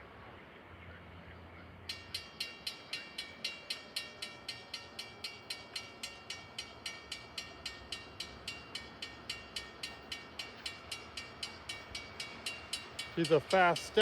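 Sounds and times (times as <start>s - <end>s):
railroad crossing bell ringing: 1.6s - 14.0s.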